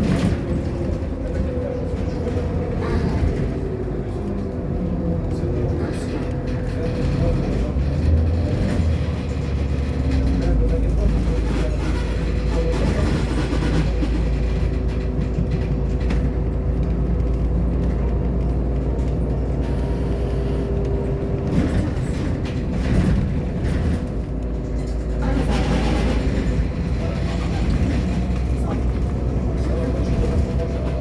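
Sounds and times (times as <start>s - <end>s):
bus engine rumble: 0.0s - 31.0s
engine whine: 0.0s - 31.0s.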